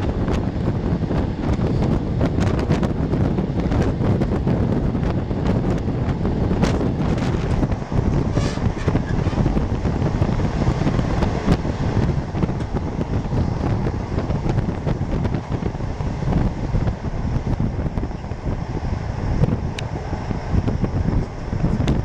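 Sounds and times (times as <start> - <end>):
train rumbling on rails: 0.0 - 22.0
wind buffeting microphone: 0.0 - 22.0.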